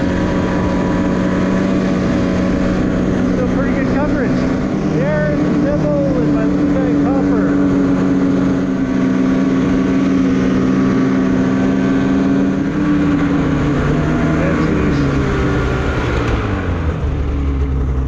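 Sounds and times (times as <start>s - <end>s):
snowmobile engine running: 0.0s - 18.0s.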